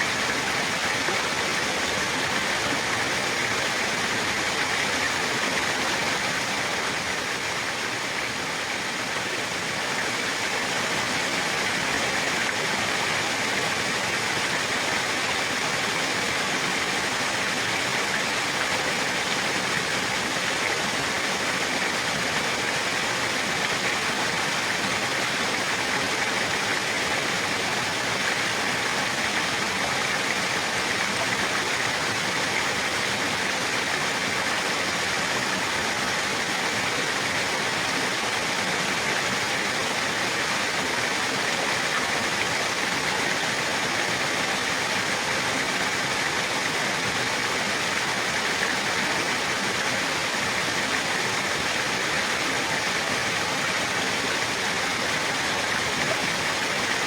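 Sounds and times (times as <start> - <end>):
water rushing steadily: 0.0 - 57.0.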